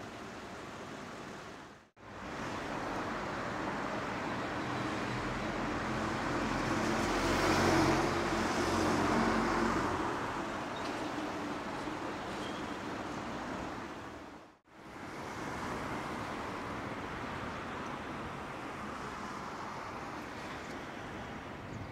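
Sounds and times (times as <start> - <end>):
road traffic: 0.0 - 21.9.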